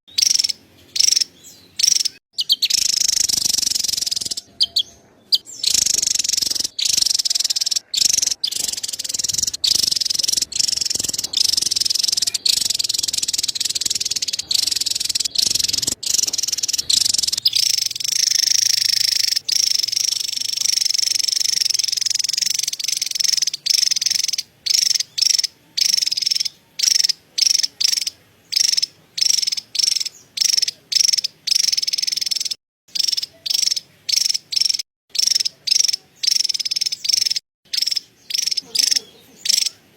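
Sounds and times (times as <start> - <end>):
bird buzzy chattering call: 0.1 - 39.9.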